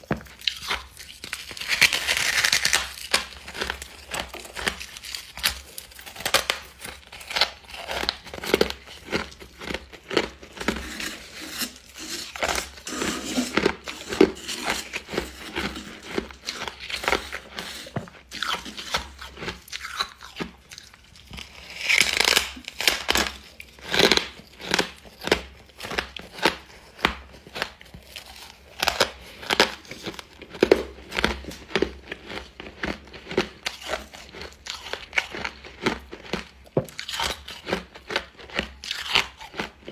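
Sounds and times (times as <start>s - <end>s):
frost being chewed crunching: 0.0s - 39.9s.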